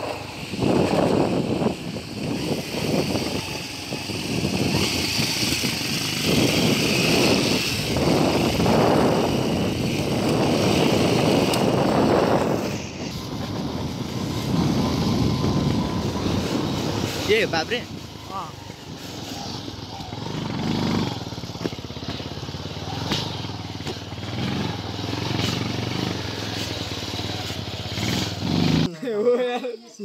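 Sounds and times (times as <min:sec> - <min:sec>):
wind buffeting microphone: 0:00.0 - 0:28.4
motorcycle running: 0:00.0 - 0:28.9.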